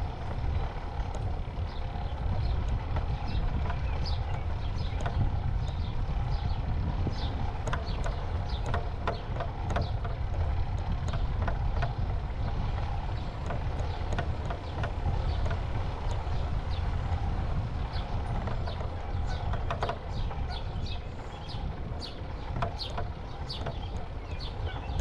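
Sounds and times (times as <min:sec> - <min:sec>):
bicycle tyre rumble on concrete: 0:00.0 - 0:25.0
sharp clicks and rattles: 0:00.0 - 0:25.0
wind rushing over microphone: 0:00.0 - 0:25.0.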